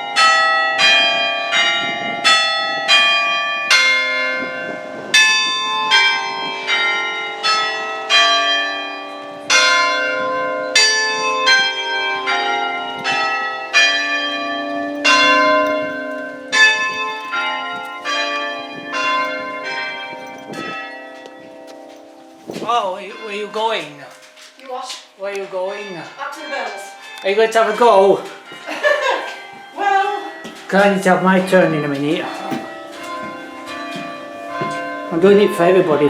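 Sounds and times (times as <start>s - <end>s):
church bells playing a tune: 0.0s - 36.0s.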